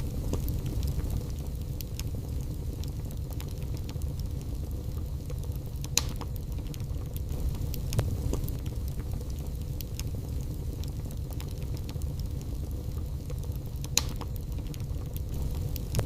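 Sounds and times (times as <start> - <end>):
fire flames rumbling: 0.0 - 16.0
logs crackling and popping: 0.0 - 16.0.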